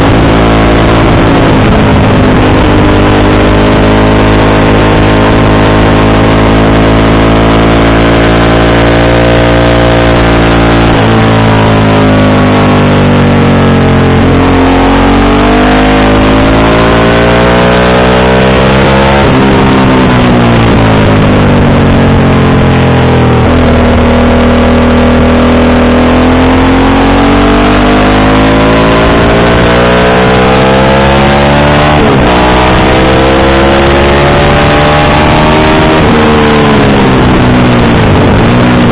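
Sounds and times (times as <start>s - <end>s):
motorcycle accelerating and slowing: 0.0s - 38.9s.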